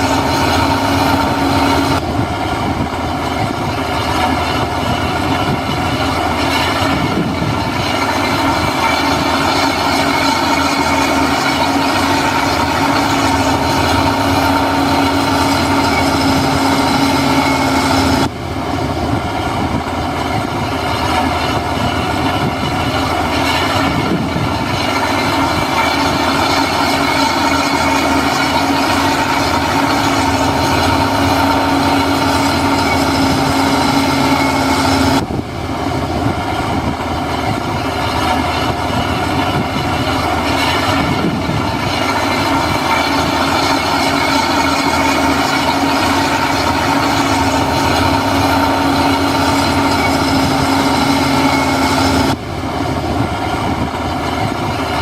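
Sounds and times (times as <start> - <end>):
clattering rumble: 0.0 - 55.0
diesel machine running under load: 0.0 - 55.0
steady whine: 0.0 - 55.0.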